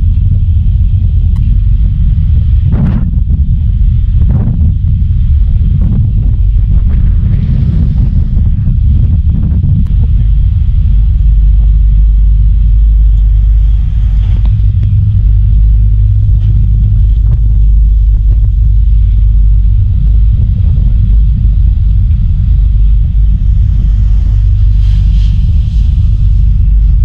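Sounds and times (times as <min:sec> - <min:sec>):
ferry engines low rumble: 0:00.0 - 0:27.0.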